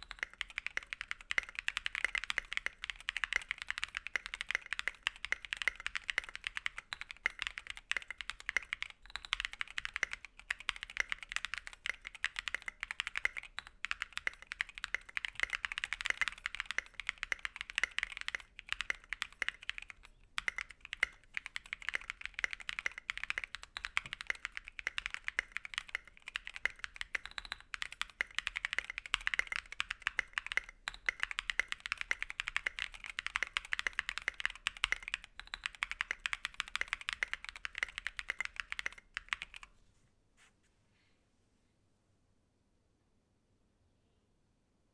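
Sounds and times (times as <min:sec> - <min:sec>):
mechanical keyboard typing: 0:00.0 - 0:39.7.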